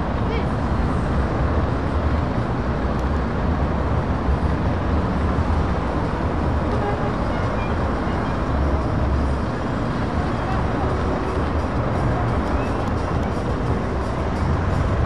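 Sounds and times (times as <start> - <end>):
heavy truck diesel engines rumbling: 0.0 - 15.0.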